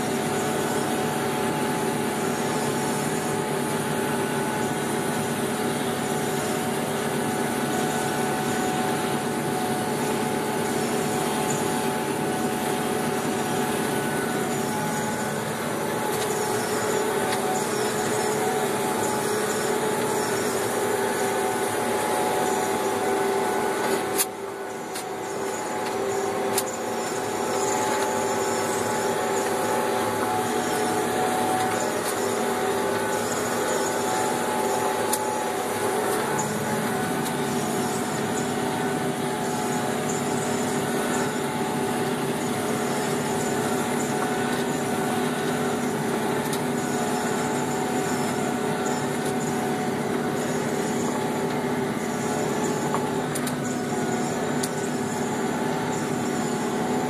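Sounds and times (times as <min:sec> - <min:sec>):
tractor engine drone: 0:00.0 - 0:57.0.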